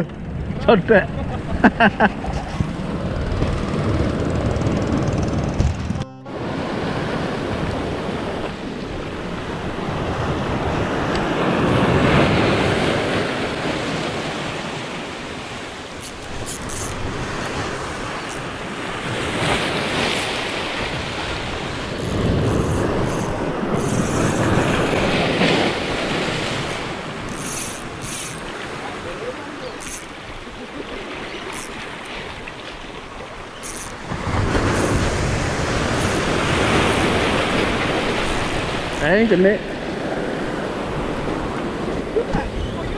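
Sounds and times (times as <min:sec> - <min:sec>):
sea waves breaking over rocks: 0:00.0 - 0:42.9.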